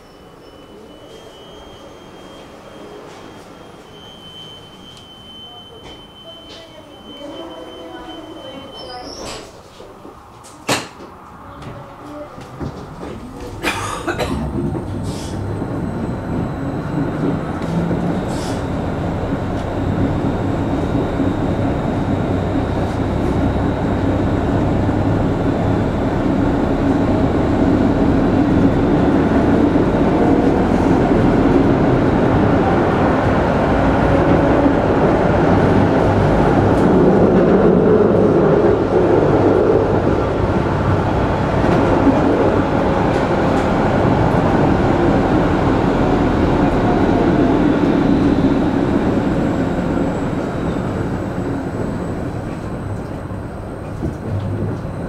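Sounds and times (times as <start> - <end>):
tram rumbling on rails: 0.0 - 55.0.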